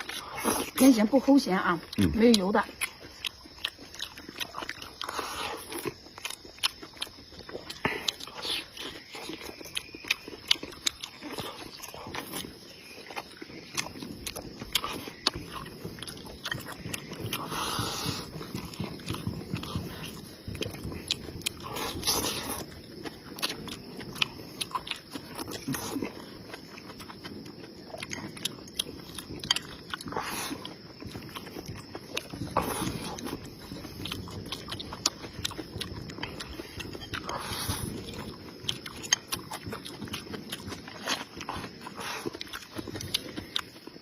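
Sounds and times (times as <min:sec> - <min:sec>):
person chewing food: 0:00.0 - 0:01.1, 0:01.7 - 0:44.0.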